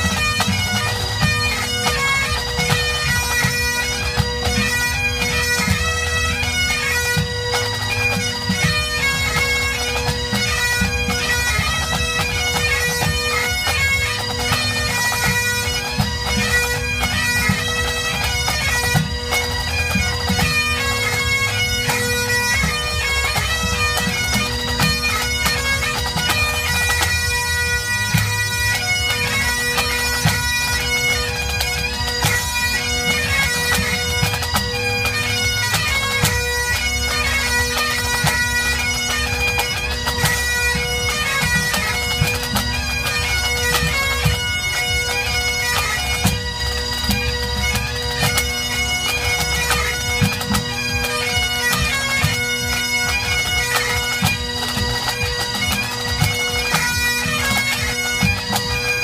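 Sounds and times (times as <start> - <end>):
bagpipes with drones: 0.0 - 59.0
snare and tenor drums beating: 0.0 - 59.0.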